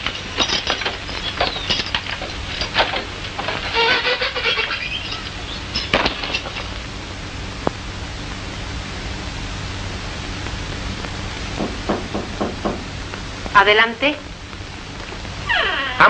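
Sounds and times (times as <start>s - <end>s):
film soundtrack hiss and hum: 0.0s - 16.0s.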